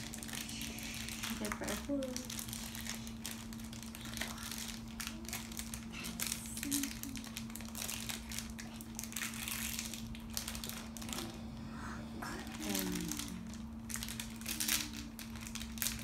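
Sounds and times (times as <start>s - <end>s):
wrapper crinkling: 0.0s - 11.4s, 12.2s - 16.0s.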